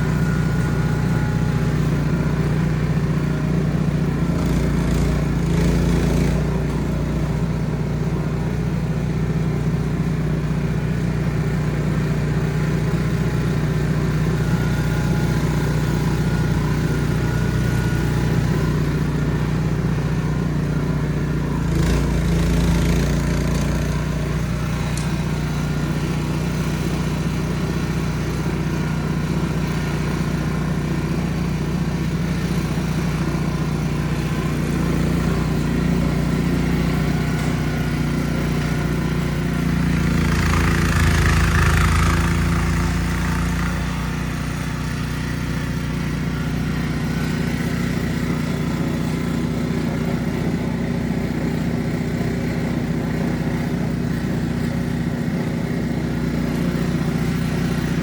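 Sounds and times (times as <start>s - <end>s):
snow blower engine running: 0.0s - 58.0s.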